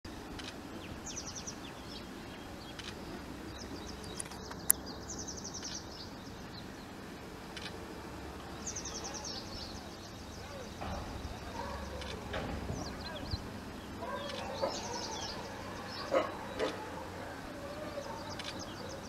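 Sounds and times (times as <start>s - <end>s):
birds chirping in rapid runs: 0.1s - 19.0s
steady background noise: 0.1s - 19.0s.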